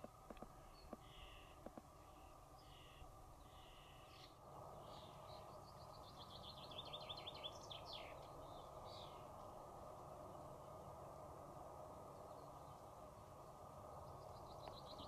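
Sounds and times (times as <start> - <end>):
faint birdsong: 0.0 - 15.0
low background hiss: 0.0 - 15.0.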